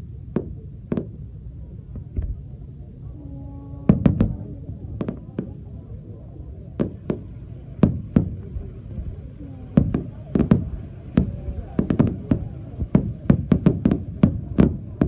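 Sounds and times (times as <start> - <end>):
fireworks bursting: 0.0 - 2.8, 3.6 - 15.0
low background rumble: 0.0 - 15.0.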